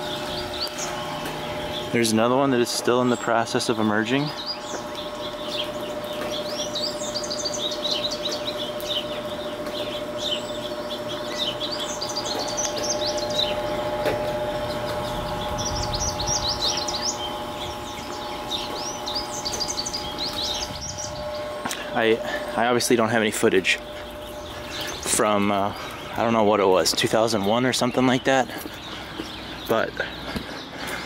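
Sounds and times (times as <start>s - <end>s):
faint steady hum: 0.0s - 31.0s
small birds chirping: 0.0s - 31.0s.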